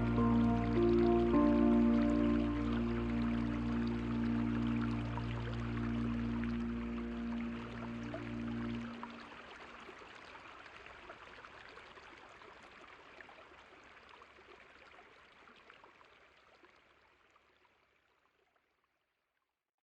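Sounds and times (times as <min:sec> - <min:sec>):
stream water running: 0:00.0 - 0:18.7.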